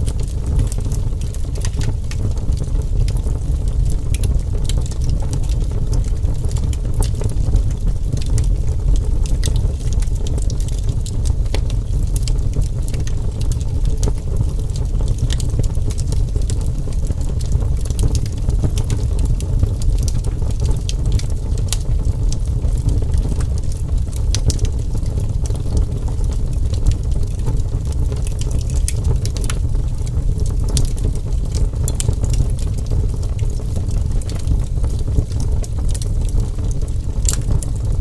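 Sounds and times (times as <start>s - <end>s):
fire popping and snapping: 0.0s - 38.0s
fire rumbling: 0.0s - 38.0s.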